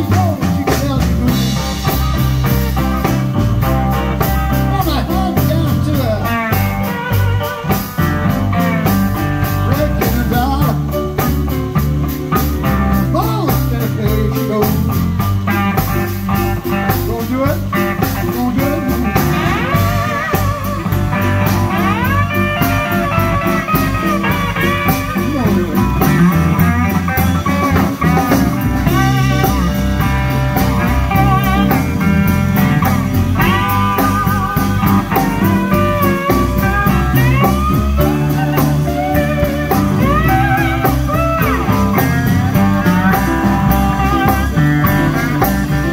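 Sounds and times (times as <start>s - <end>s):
blues band playing: 0.0s - 45.9s
electric guitar lead: 0.0s - 45.9s.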